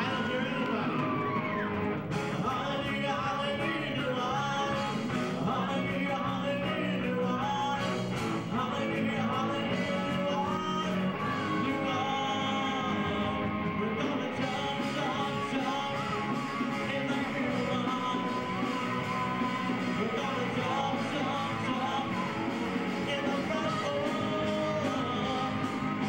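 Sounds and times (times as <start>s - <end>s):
guitar: 0.0s - 26.0s
rock band playing: 0.0s - 26.0s
voices singing: 0.0s - 26.0s.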